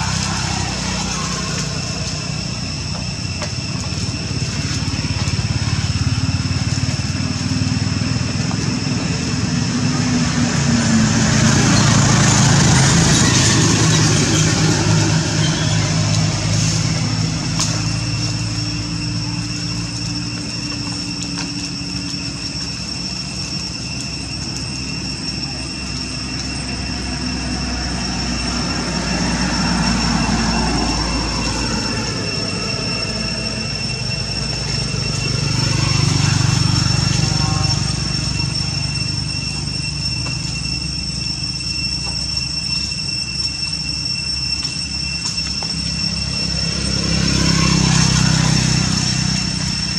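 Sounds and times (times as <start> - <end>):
high-pitched whine: 0.0 - 49.9
low engine rumble: 0.0 - 49.9.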